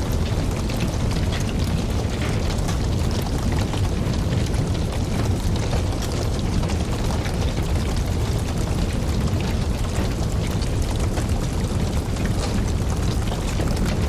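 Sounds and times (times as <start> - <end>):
campfire flames rushing: 0.0 - 14.0
fire crackling and popping: 0.0 - 14.0.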